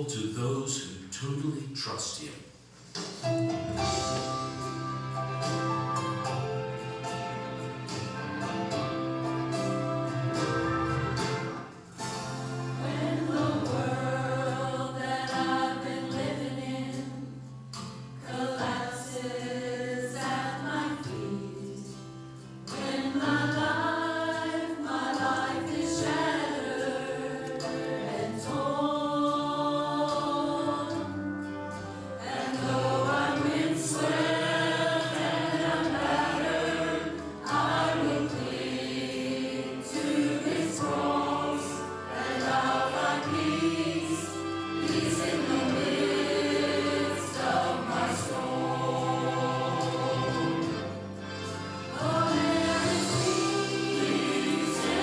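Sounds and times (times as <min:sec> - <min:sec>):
choir singing: 0:03.8 - 0:17.4, 0:18.2 - 0:55.0.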